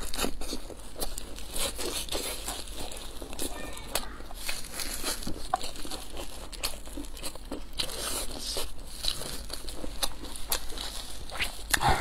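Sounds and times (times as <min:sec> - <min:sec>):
biting and chewing flatbread: 0:00.0 - 0:12.0
crunching crisp crust: 0:00.0 - 0:12.0.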